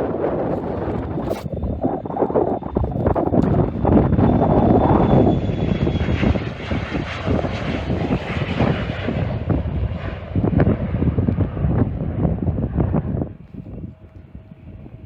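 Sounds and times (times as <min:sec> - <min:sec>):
airliner engines passing: 0:00.0 - 0:15.0
wind buffeting microphone: 0:00.0 - 0:15.0.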